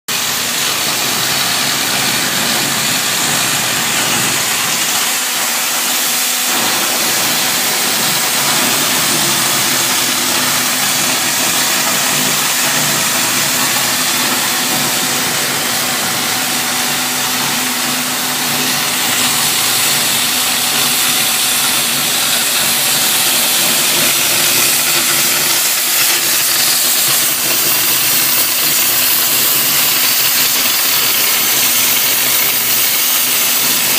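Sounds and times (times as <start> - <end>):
cutting torch hissing: 0.1 - 33.9.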